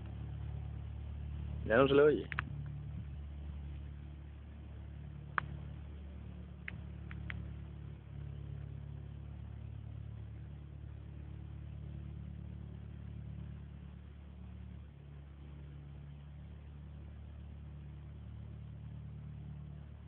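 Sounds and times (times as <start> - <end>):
distant propeller plane drone: 0.0 - 20.0.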